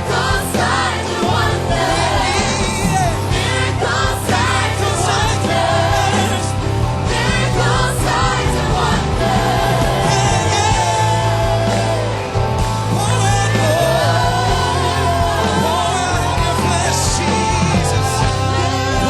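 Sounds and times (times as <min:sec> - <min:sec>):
bass: 0:00.0 - 0:19.0
drums: 0:00.0 - 0:19.0
people singing: 0:00.0 - 0:19.0
worship band playing: 0:00.0 - 0:19.0.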